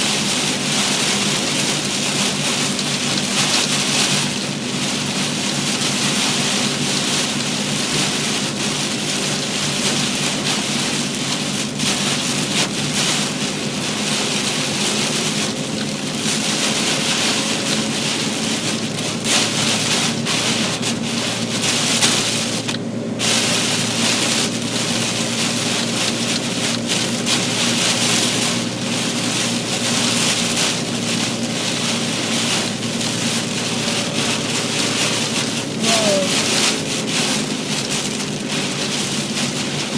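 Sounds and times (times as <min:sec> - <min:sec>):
heavy rain drumming on car: 0:00.0 - 0:39.9.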